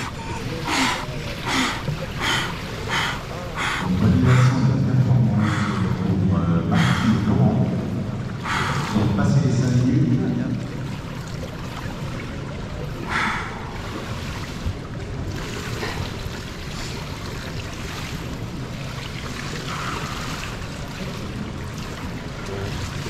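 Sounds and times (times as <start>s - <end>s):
echoing pool water noise: 0.0s - 23.0s.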